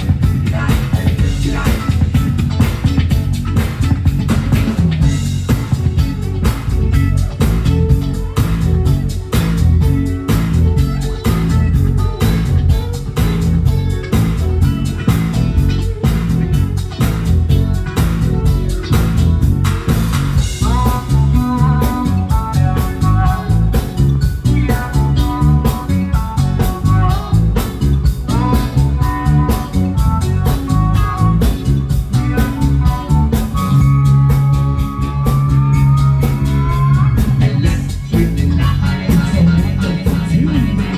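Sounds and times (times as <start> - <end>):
rock band playing: 0.0 - 40.9
sliding electric guitar lead: 0.0 - 40.9
steady drum beat: 0.0 - 40.9.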